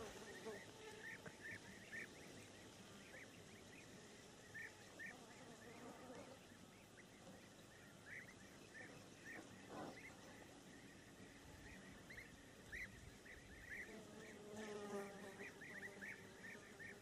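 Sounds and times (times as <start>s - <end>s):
soft rustle: 0.0s - 16.7s
faint bird chirps: 0.2s - 17.0s.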